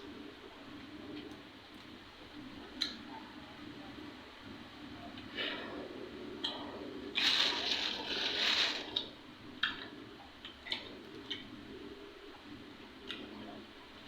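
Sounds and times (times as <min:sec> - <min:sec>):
crackly eating noise: 0:00.0 - 0:14.0.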